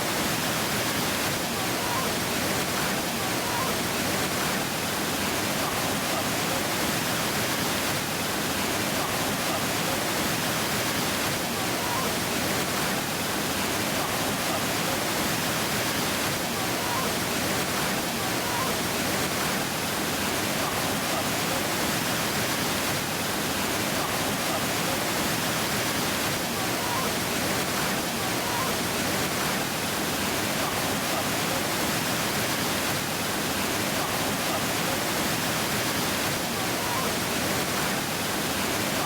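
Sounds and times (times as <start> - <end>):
waterfall rushing: 0.1 - 39.0.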